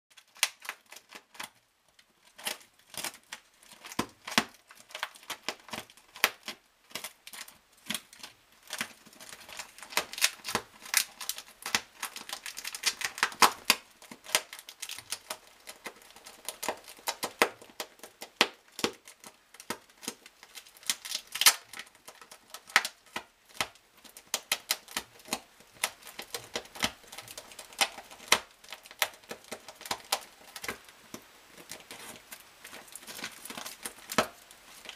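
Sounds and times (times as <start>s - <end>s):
claws scratching at tape: 2.2s - 34.9s.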